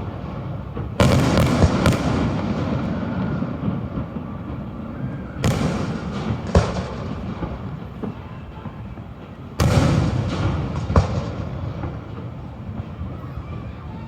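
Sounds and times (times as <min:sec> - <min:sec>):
fireworks booming: 0:00.0 - 0:14.0
rumbling echo: 0:00.0 - 0:14.0.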